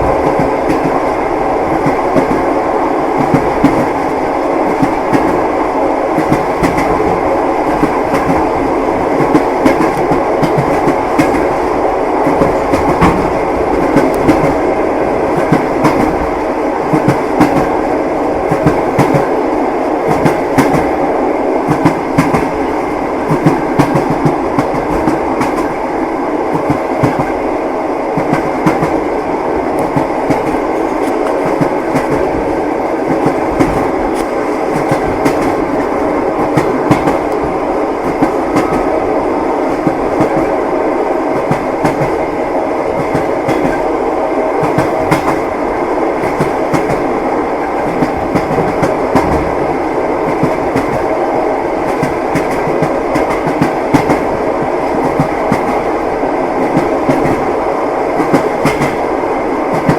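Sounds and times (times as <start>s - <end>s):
train carriage rumble: 0.0s - 59.9s.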